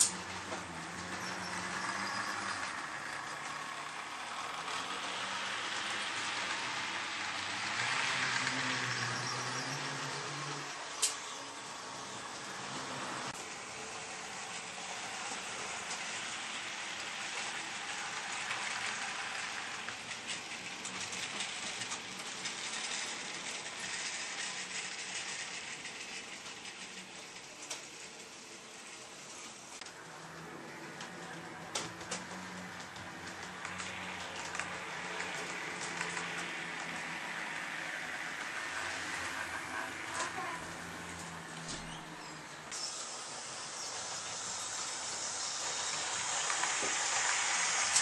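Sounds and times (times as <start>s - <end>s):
model train motor whirring: 0.0s - 48.0s
wheels rolling on rails: 0.0s - 48.0s.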